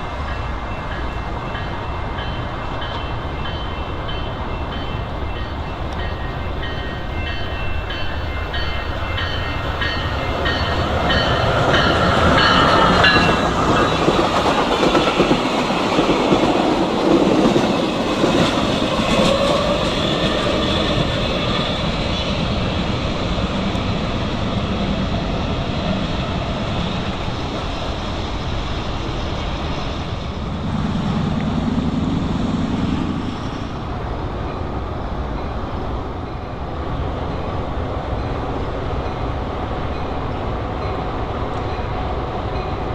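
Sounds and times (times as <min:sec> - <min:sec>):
train passing at speed: 0:00.0 - 0:42.9.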